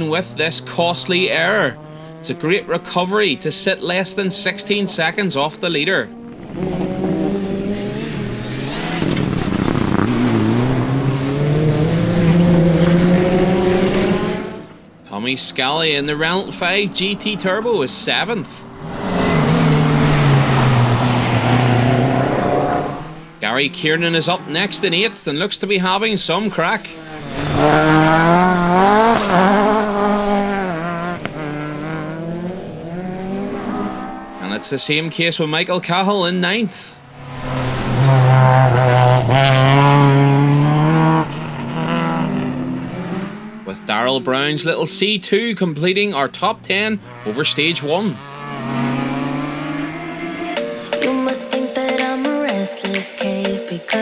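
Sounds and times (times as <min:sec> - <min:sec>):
car engine revving under load: 0:00.0 - 0:35.3, 0:36.9 - 0:44.5, 0:46.3 - 0:50.6.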